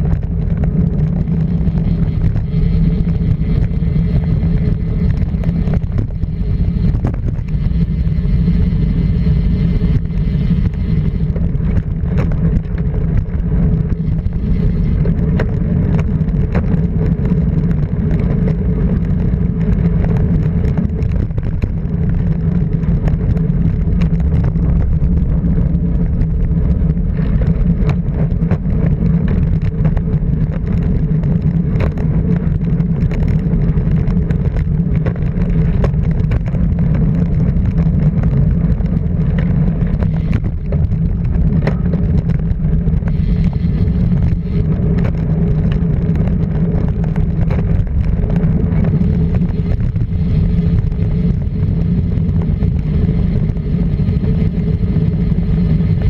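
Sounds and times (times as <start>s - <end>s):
car engine running: 0.0s - 56.0s
road and wind noise: 0.0s - 56.0s.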